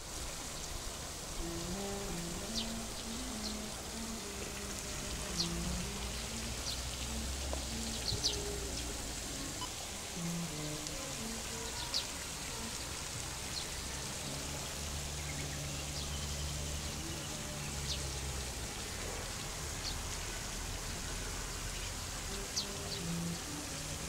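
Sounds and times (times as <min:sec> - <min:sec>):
rain falling: 0:00.0 - 0:24.0
soft background music: 0:00.0 - 0:24.0.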